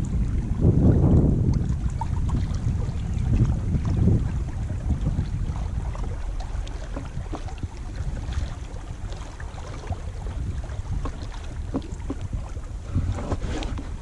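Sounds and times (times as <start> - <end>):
water lapping against boat: 0.0 - 14.0
wind rumbling on microphone: 0.0 - 14.0.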